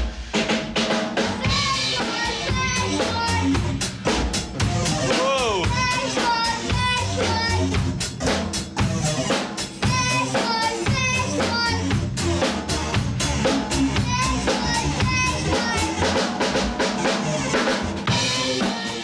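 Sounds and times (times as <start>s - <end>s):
bass: 0.0s - 19.0s
drum kit beat: 0.0s - 19.0s.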